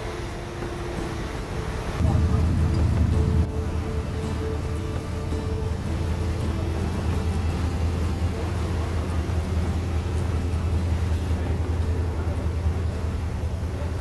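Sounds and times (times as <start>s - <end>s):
boat engines droning: 0.0s - 14.0s
water rushing along hull: 0.0s - 14.0s.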